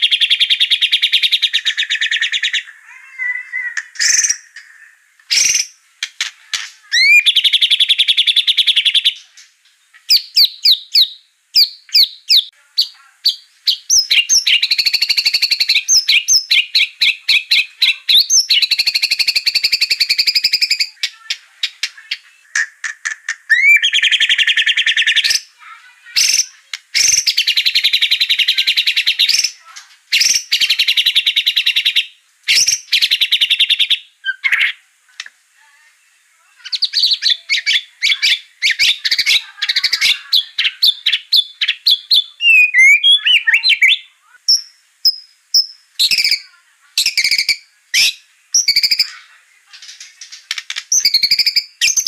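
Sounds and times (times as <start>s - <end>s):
songbird singing trills and whistles: 0.0s - 4.7s, 5.3s - 5.8s, 6.6s - 25.6s, 26.2s - 34.8s, 36.6s - 49.2s, 49.8s - 52.0s.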